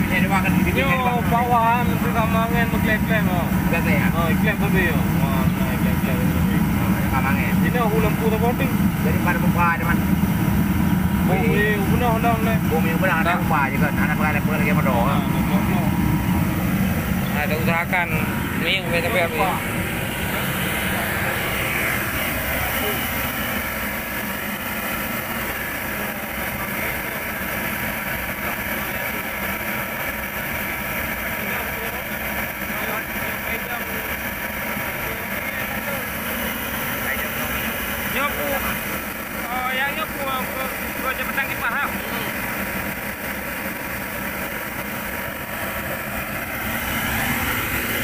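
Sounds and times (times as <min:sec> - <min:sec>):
space heater burner and fan running: 0:00.0 - 0:48.0.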